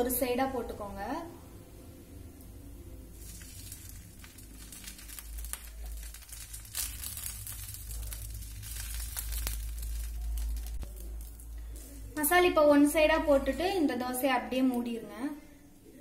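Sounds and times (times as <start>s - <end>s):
light sizzle: 0.0s - 16.0s.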